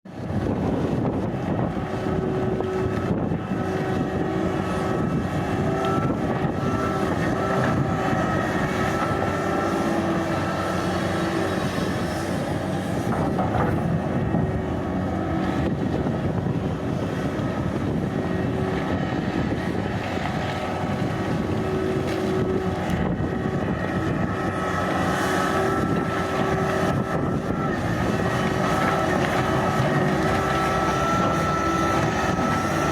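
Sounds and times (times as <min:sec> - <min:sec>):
excavator diesel engine running: 0:00.1 - 0:32.9
steady whine: 0:00.1 - 0:32.9.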